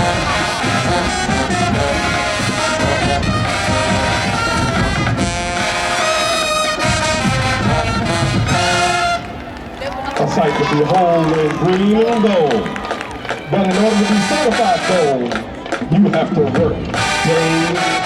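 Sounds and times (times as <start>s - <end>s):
brass playing chords: 0.0s - 12.9s, 13.5s - 18.0s
drumline: 0.0s - 18.0s.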